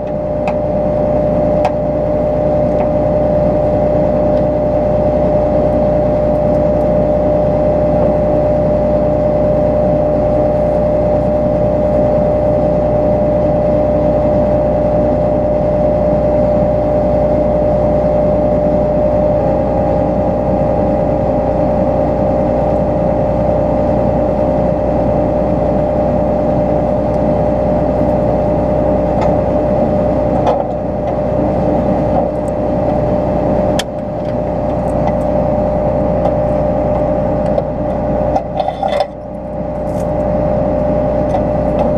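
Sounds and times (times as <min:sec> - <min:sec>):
combine harvester droning: 0:00.0 - 0:41.9.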